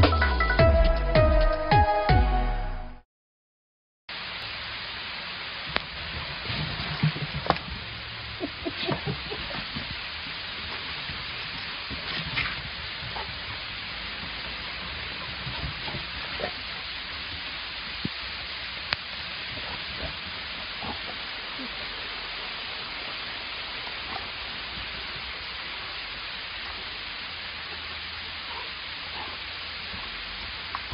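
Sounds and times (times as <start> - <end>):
hail hissing: 4.1 - 30.9
hail ticks: 5.5 - 30.9.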